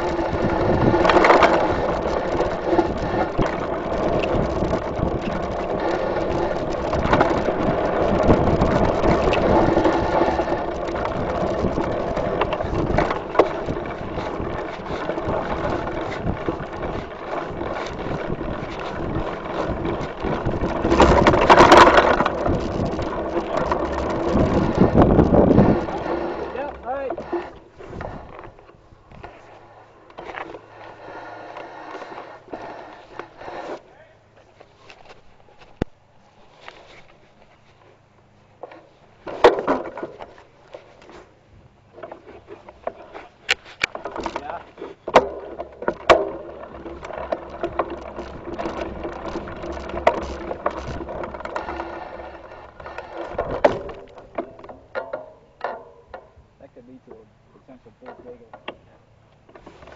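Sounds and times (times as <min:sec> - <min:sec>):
bike clicks and rattles: 0:00.0 - 0:59.9
bike tyres on dirt: 0:00.0 - 0:59.9.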